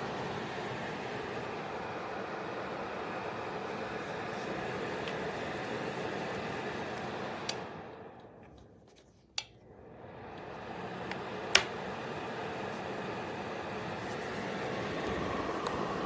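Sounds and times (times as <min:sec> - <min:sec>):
space heater fan hiss: 0:00.0 - 0:16.0.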